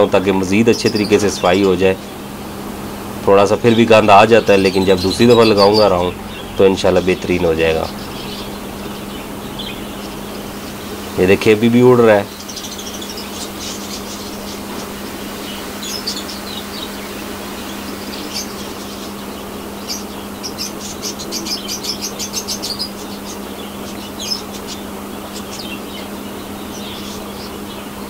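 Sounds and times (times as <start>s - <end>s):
fan humming: 0.0s - 28.0s
parrots chirping: 0.0s - 28.0s.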